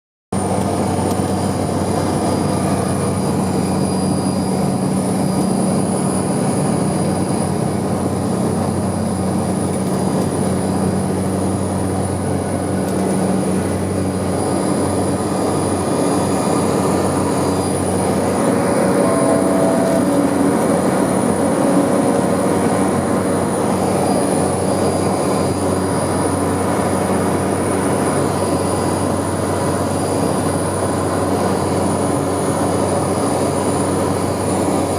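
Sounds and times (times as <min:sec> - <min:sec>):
high turbine whine: 0:00.4 - 0:34.9
propeller engine drone: 0:00.4 - 0:34.9.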